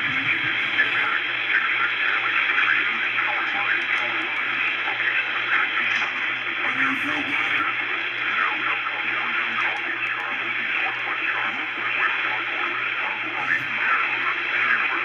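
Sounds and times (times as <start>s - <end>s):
constant low hum: 0.0s - 15.0s
indistinct voices: 0.0s - 15.0s
radio hiss: 0.0s - 15.0s.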